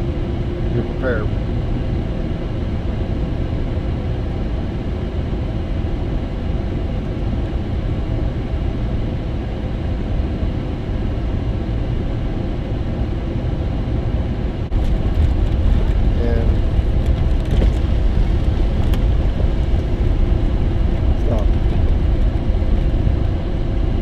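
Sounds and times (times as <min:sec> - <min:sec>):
road and engine noise in car: 0:00.0 - 0:24.0.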